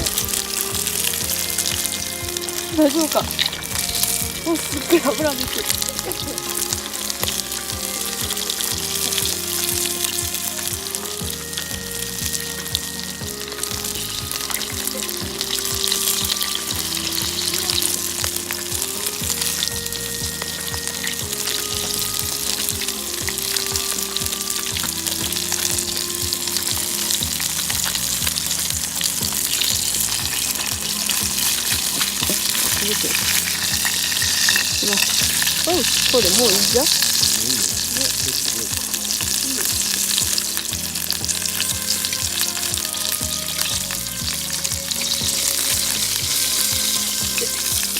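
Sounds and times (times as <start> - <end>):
meat sizzling in a pan: 0.0 - 47.9.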